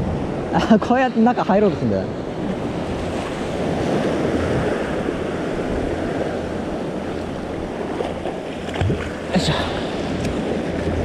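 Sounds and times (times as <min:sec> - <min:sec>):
ocean surf washing: 0:00.0 - 0:11.0
wind on microphone: 0:00.0 - 0:11.0.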